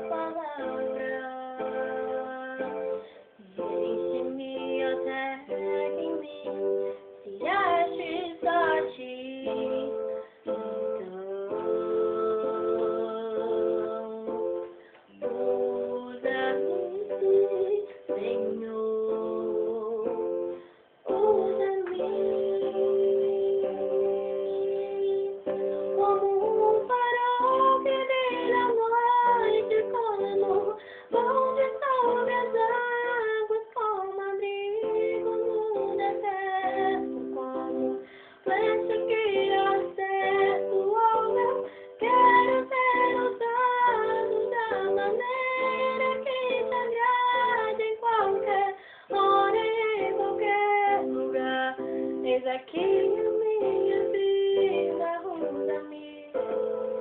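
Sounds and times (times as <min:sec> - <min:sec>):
girl singing: 0:00.0 - 0:56.6
instrumental backing track: 0:00.0 - 0:57.0.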